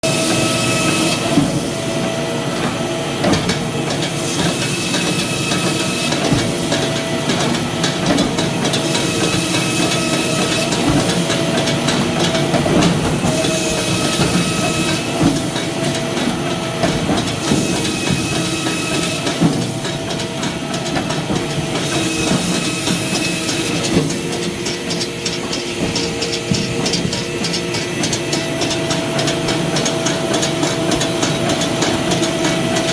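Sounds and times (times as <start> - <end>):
firewood machinery humming: 0.0 - 32.9
machinery clatter and knocks: 2.5 - 32.9.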